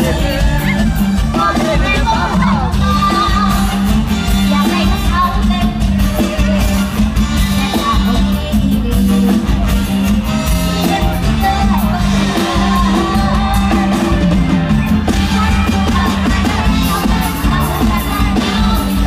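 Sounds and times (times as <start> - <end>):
heavy bass line: 0.0 - 19.0
live band playing over loudspeakers: 0.0 - 19.0
steady drum beat: 0.0 - 19.0
woman singing into a microphone: 0.1 - 9.6, 10.7 - 19.0.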